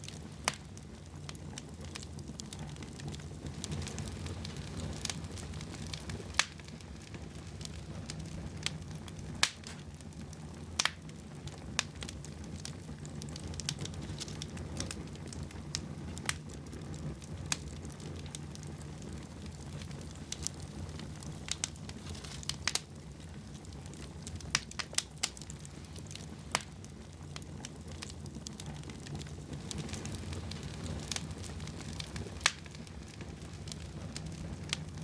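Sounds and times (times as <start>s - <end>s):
fire crackling and popping: 0.0s - 35.0s
fire rumbling: 0.0s - 35.0s.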